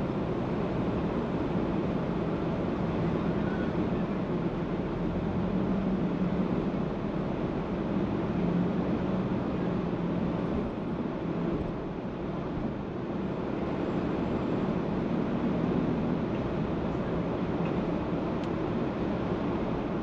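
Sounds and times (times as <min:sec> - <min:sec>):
low engine hum: 0:00.0 - 0:20.0
road and tyre noise: 0:00.0 - 0:20.0.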